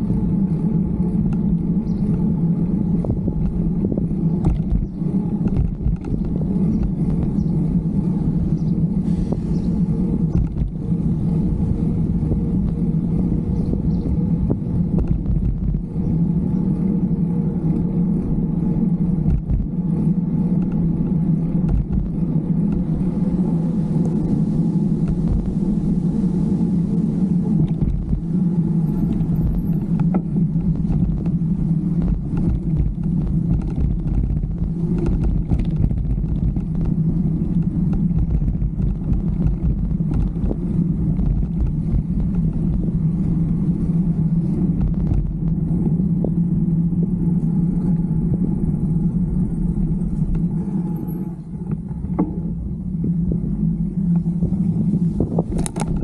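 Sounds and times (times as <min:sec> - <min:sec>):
bike clicks and rattles: 0:00.0 - 0:09.0, 0:09.6 - 0:52.6, 0:54.0 - 0:56.0
bike tyres on pavement: 0:00.0 - 0:56.0
wind rumble on microphone: 0:00.0 - 0:56.0.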